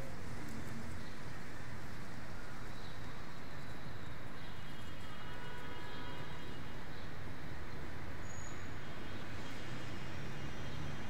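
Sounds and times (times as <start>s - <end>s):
low city rumble: 0.0s - 11.0s.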